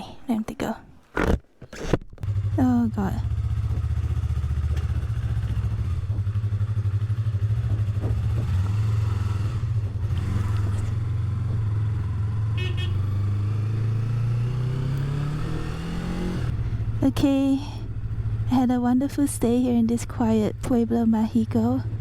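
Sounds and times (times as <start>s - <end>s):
motorcycle engine idling: 2.2s - 15.3s, 15.9s - 22.0s.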